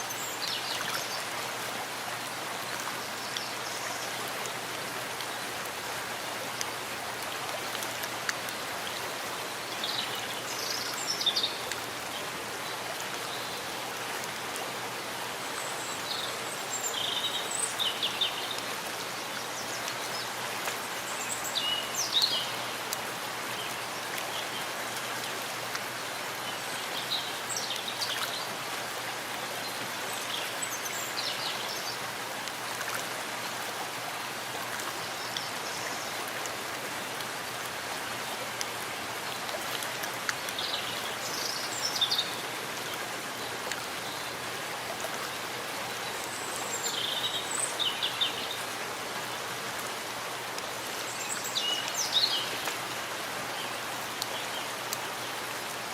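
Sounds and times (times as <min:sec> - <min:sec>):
steady rain in a forest: 0:00.0 - 0:55.9.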